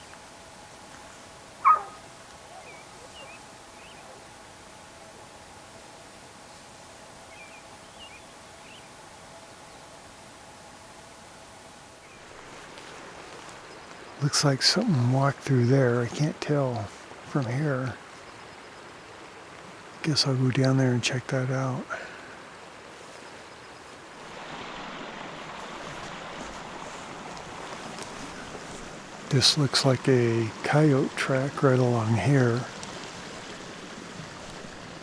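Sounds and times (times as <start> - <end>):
faint outdoor hiss: 0.0 - 35.0
stream water rushing: 0.0 - 35.0.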